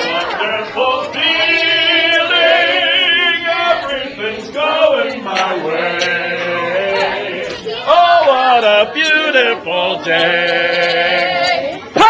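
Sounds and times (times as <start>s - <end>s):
voices singing long held notes: 0.0s - 12.0s.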